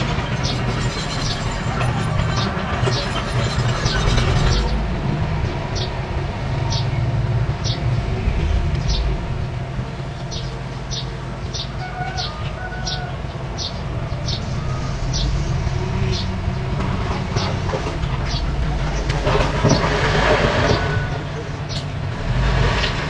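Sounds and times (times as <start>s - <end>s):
bulldozer diesel engine rumbling: 0.0s - 23.0s.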